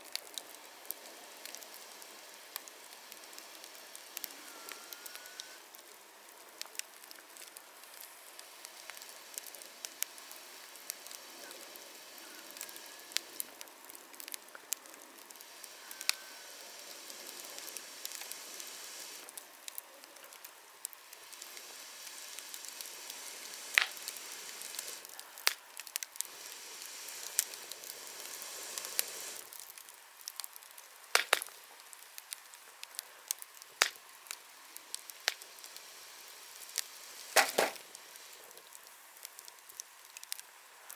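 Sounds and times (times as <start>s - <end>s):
bonfire crackling: 0.0s - 40.9s
sharp pops from fire: 0.0s - 40.9s.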